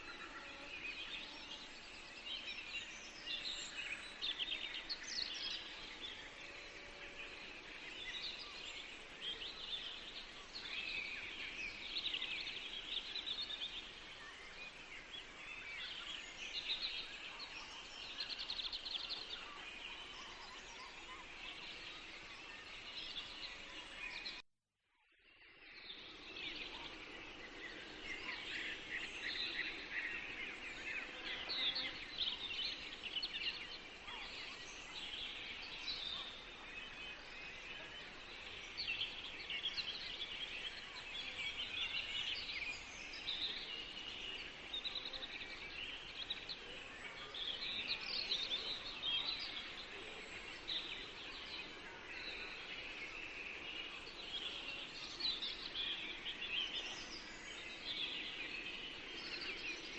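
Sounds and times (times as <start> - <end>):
songbirds chirping and trilling: 0.0 - 24.4, 25.1 - 59.9.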